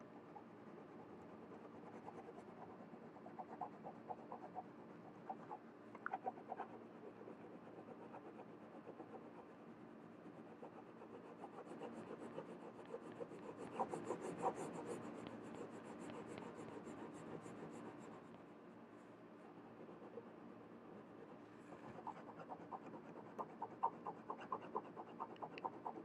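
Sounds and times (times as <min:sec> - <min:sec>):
pencil scratching on paper: 0:00.6 - 0:18.4, 0:19.5 - 0:20.3, 0:21.0 - 0:26.0.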